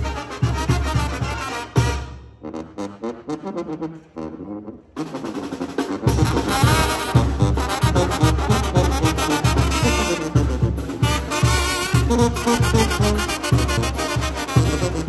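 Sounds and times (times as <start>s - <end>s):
brass band playing: 0.0s - 15.0s.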